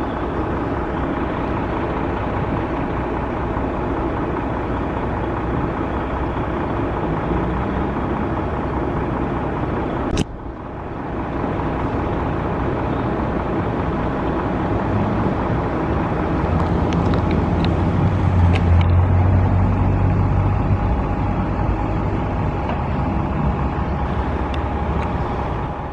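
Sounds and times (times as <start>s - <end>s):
low engine rumble: 0.0s - 25.9s
road traffic passing: 0.0s - 25.9s.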